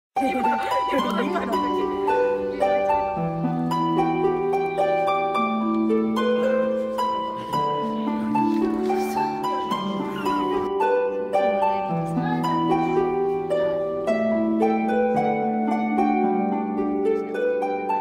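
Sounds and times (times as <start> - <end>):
plucked string melody: 0.2 - 18.0.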